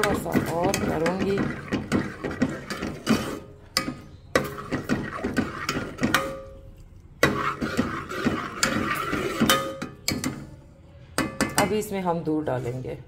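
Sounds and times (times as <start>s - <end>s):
spoon scraping and clinking on pot: 0.0s - 10.5s.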